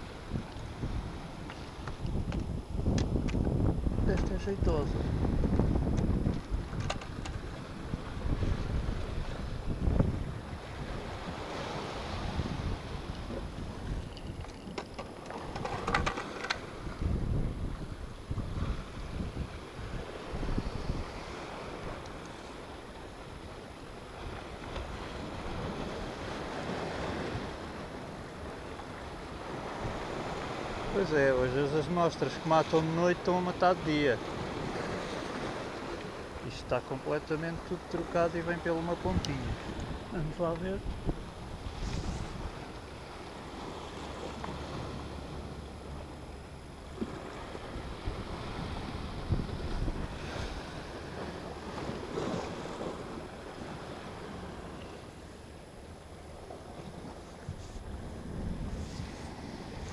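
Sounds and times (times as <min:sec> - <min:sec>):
wind buffeting microphone: 0:00.0 - 0:31.5, 0:38.8 - 0:55.1, 0:56.3 - 0:59.9
sea surf breaking on rocks: 0:00.0 - 0:59.9.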